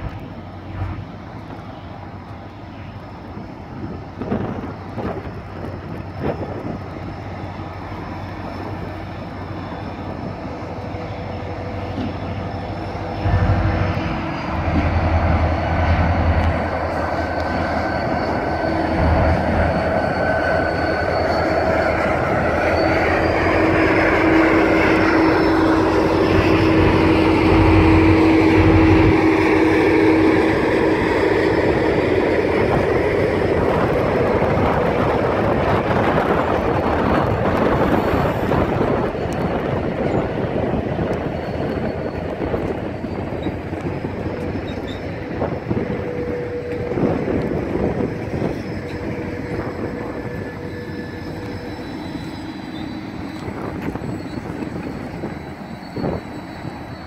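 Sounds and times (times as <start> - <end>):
diesel locomotive passing: 0.0 - 57.0
train cars rolling on rails: 0.0 - 57.0.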